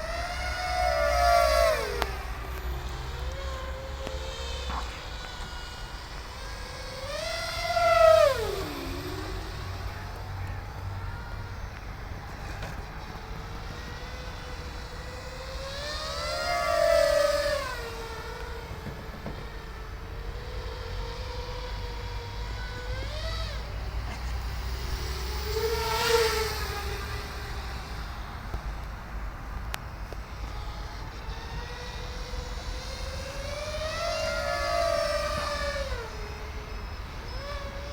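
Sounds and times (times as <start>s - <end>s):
quadcopter motors whining: 0.0s - 37.9s.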